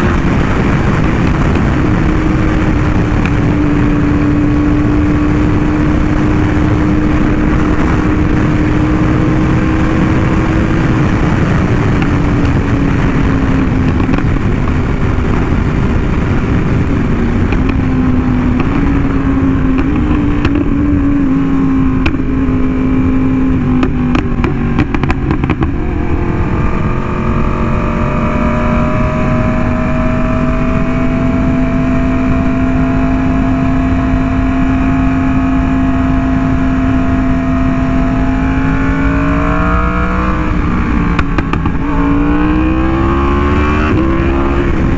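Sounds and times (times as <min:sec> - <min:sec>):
motorcycle engine running: 0:00.0 - 0:44.9
wind rush over microphone: 0:00.0 - 0:44.9.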